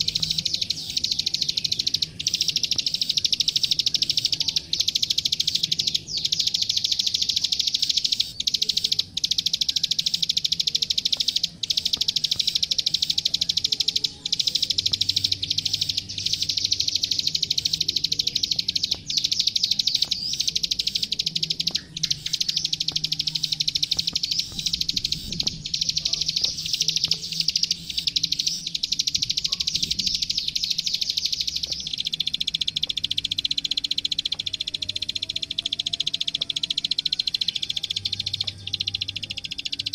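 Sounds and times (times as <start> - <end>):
bird clicking trill: 0.0 - 39.9.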